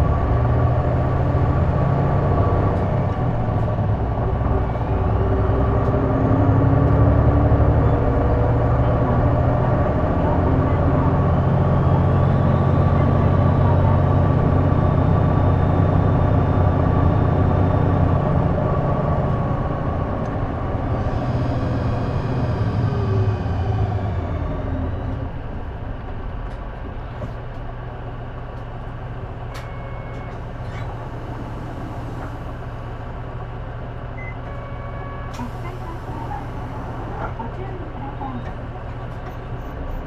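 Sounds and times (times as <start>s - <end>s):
bus engine: 0.0s - 40.0s.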